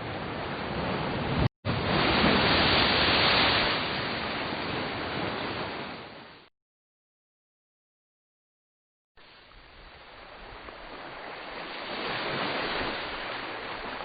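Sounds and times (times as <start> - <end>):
ocean waves washing: 0.0 - 6.5, 9.2 - 14.0.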